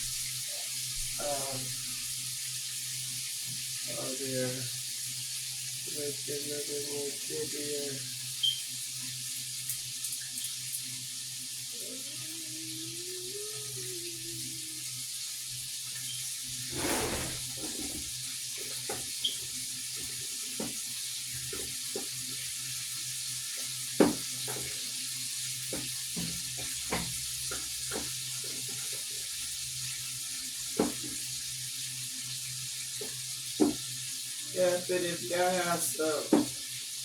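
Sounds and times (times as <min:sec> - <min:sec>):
shrimp sizzling in a frying pan: 0:00.0 - 0:11.9, 0:14.3 - 0:37.0.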